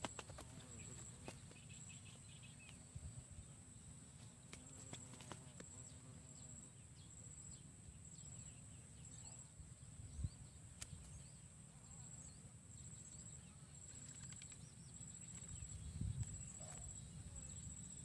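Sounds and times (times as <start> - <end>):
faint bird chirps: 0.0 - 4.0, 5.6 - 18.0.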